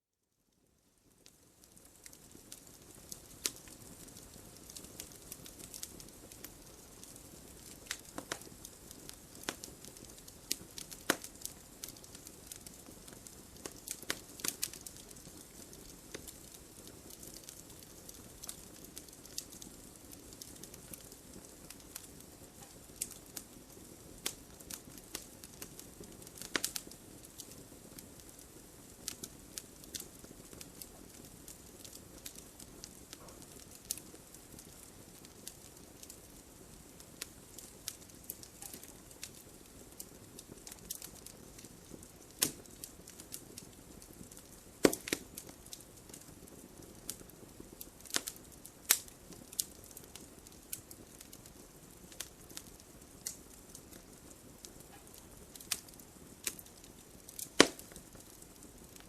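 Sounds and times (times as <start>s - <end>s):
wood crackling and popping: 0.8s - 59.0s
fire hissing: 1.3s - 59.0s.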